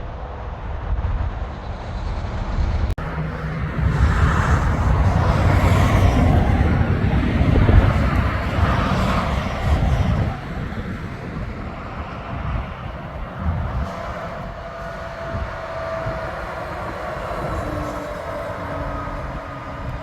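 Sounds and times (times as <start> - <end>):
heavy truck passing: 0.7 - 20.0.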